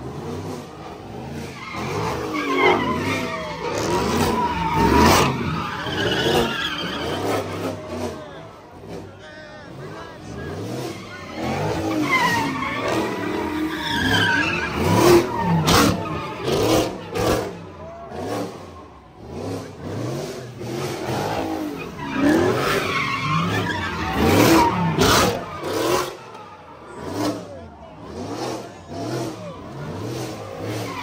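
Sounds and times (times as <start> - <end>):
car engine revving: 0.0 - 31.0
tires squealing: 0.0 - 31.0.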